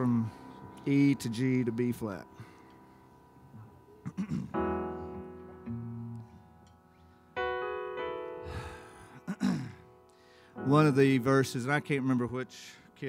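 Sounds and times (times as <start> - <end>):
keyboard playing sustained chords: 0.0 - 13.0.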